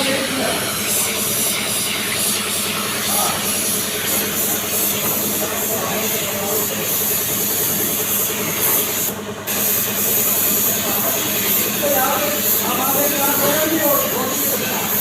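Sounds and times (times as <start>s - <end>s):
paint spray gun hissing: 0.0s - 15.0s.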